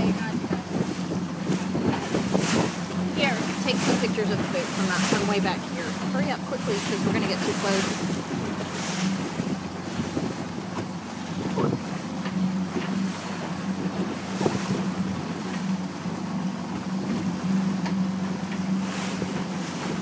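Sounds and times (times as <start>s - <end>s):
wind on microphone: 0.0s - 12.0s, 12.6s - 17.6s
motorboat engine running: 0.0s - 20.0s
water splashing against hull: 0.0s - 20.0s.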